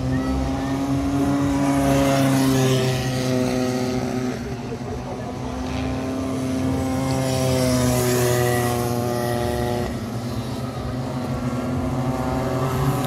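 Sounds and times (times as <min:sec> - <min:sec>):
kart engines buzzing: 0:00.0 - 0:13.0.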